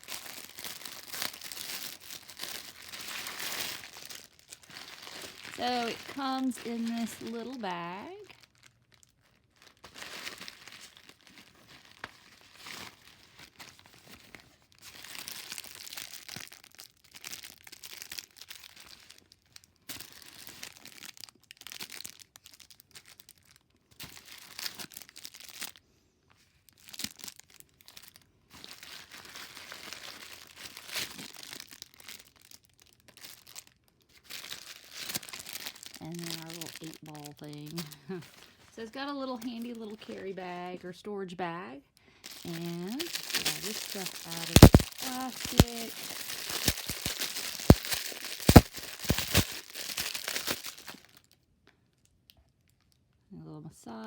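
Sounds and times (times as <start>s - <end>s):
plastic tearing: 0.0s - 25.8s, 26.7s - 39.9s, 42.3s - 51.4s
plastic packaging crinkling: 0.0s - 40.7s, 42.0s - 51.4s.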